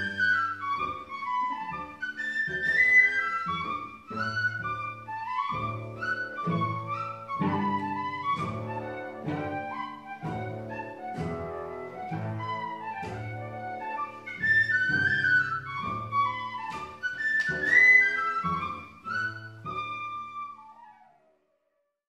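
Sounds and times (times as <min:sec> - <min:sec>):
low cello notes: 0:00.0 - 0:20.6
flute melody: 0:00.0 - 0:21.6.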